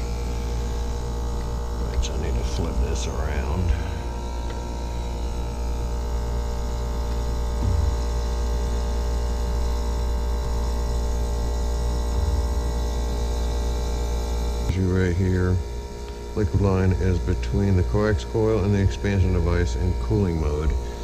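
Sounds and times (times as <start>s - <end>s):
heat pump humming: 0.0s - 21.0s.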